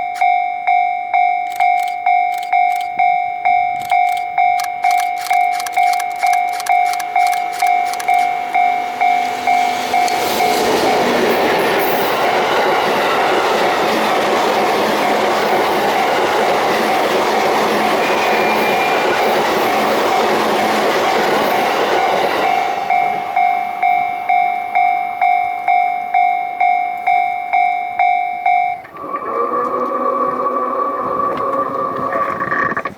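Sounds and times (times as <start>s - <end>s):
crossing warning bell ringing: 0.0s - 31.6s
train wheels rolling: 3.7s - 32.9s.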